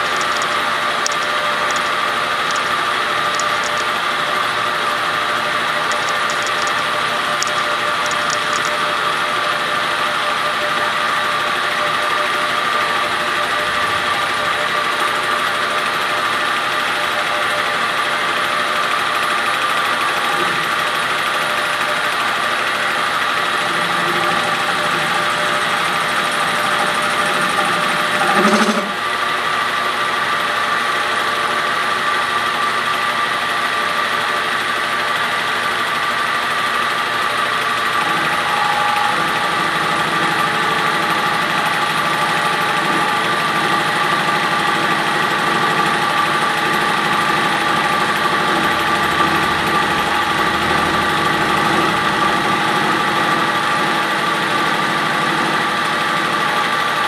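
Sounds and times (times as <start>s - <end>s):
metal lathe running: 0.0s - 57.0s.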